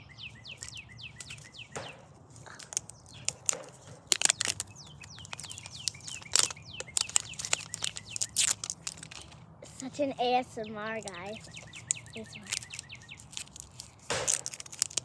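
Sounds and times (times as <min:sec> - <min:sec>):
birds chirping: 0:00.0 - 0:15.0
plastic wrapping crinkling: 0:00.4 - 0:10.2, 0:10.8 - 0:15.0.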